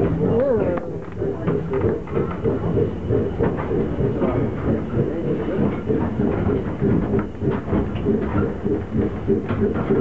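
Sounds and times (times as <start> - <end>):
train wheels rumbling and rattling: 0.0 - 10.0.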